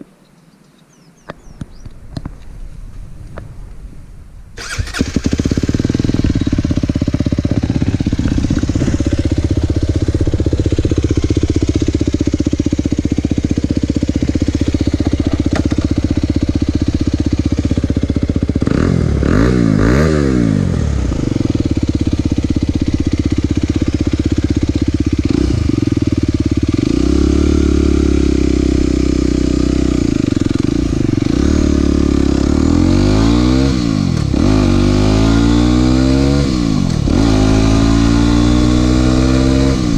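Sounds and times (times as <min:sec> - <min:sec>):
motorcycle engine idling and revving: 0:04.6 - 0:39.9.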